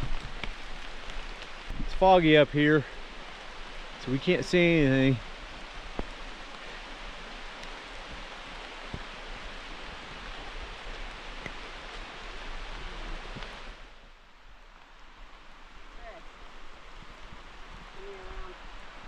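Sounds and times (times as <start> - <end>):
rain falling on forest: 0.0 - 19.0.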